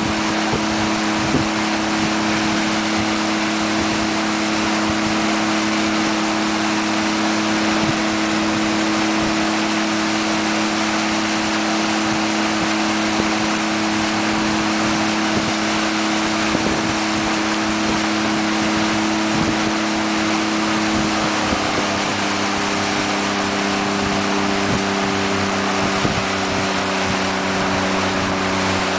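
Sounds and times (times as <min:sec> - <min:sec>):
motorboat engine: 0:00.0 - 0:28.9
water and wind rushing: 0:00.0 - 0:28.9.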